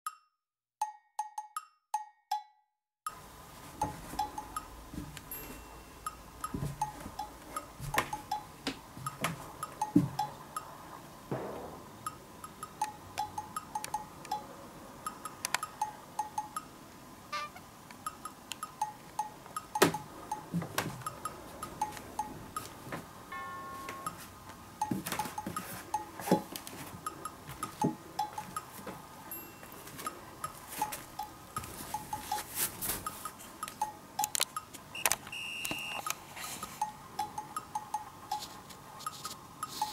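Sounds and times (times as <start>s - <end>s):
light wood-block and bell music: 0.1s - 3.2s, 3.8s - 10.8s, 12.1s - 16.8s, 18.0s - 22.7s, 23.3s - 34.7s, 36.5s - 39.9s.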